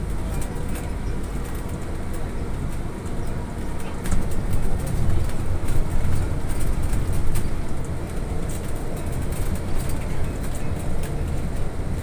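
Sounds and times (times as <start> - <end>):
low rumble of tyres and road: 0.0 - 12.0
bodywork clicks and rattles: 0.1 - 12.0.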